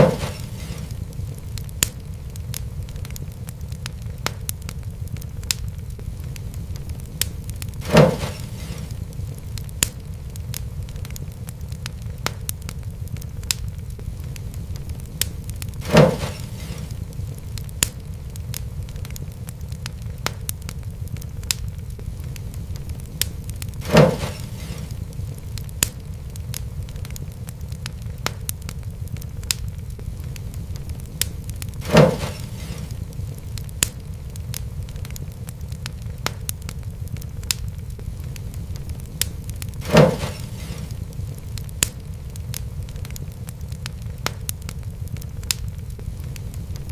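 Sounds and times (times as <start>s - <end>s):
fire popping and snapping: 0.0s - 46.9s
low rumble of flames: 0.0s - 46.9s
wood fire crackling: 0.0s - 46.9s.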